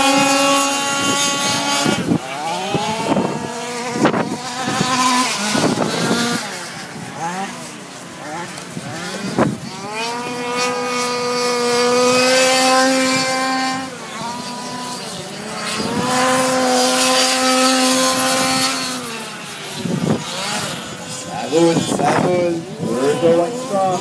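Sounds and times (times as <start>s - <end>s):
small two-stroke engine revving: 0.0s - 24.0s.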